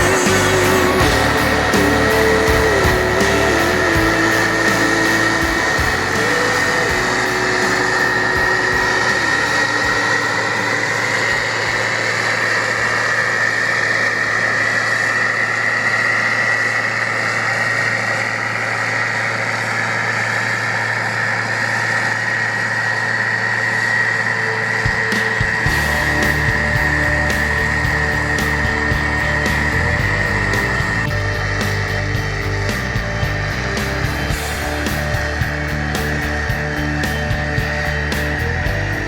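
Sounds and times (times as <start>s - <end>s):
engine drone: 0.0s - 39.0s
high-pitched whine: 0.0s - 39.0s.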